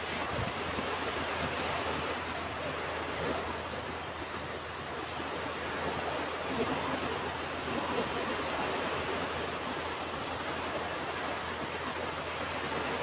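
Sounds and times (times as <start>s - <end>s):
ocean waves washing onto beach: 0.0s - 13.0s.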